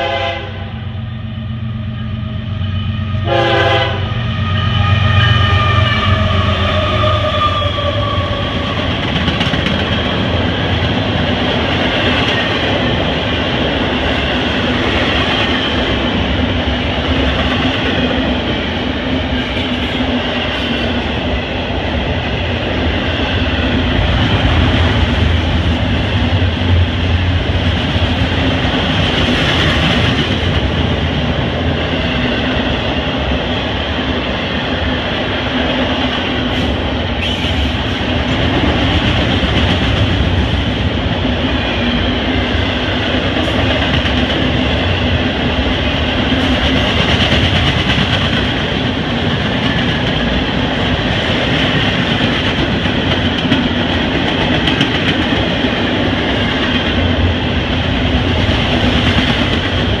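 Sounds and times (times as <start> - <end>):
freight train wheels on rails: 0.0 - 60.0.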